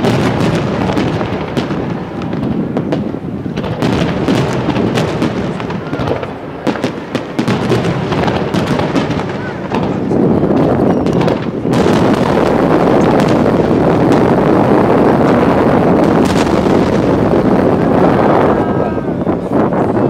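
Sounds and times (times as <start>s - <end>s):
firework bangs and cracks: 0.0s - 20.0s.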